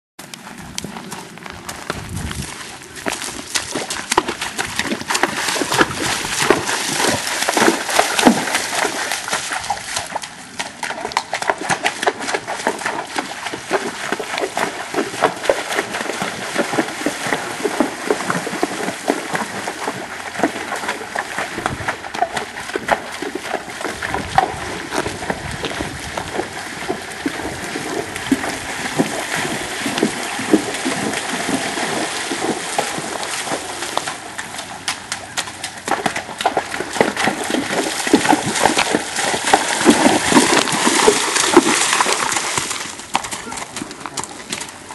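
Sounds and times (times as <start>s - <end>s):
hooves on leaves: 0.2s - 44.9s
horse splashing through water: 0.5s - 44.9s.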